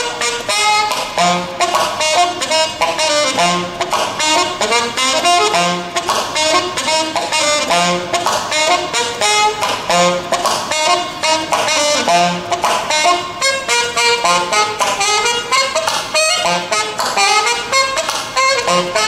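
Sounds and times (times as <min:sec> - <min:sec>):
rhythmic accompaniment: 0:00.0 - 0:19.0
saxophone jazz melody: 0:00.0 - 0:19.0.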